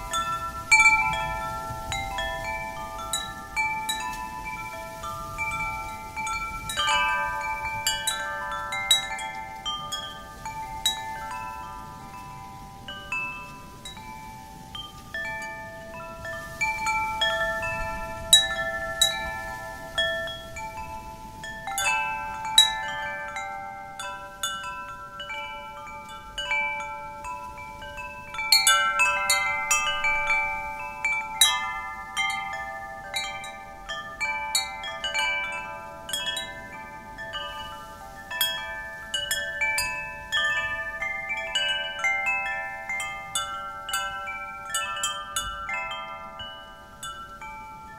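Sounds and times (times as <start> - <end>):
low rush of wind: 0.0 - 47.9
wind chimes ringing: 0.0 - 47.9.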